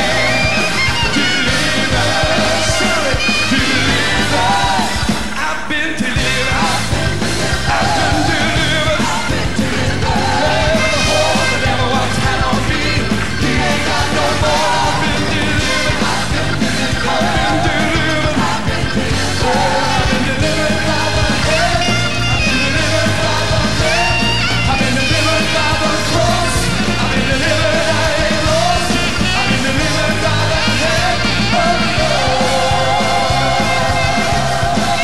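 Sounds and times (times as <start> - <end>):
live church band music: 0.0 - 35.0
people singing and shouting: 0.0 - 35.0.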